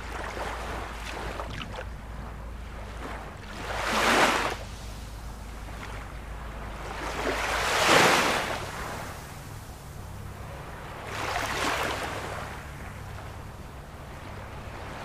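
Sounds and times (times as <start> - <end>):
sea waves breaking: 0.0 - 15.0.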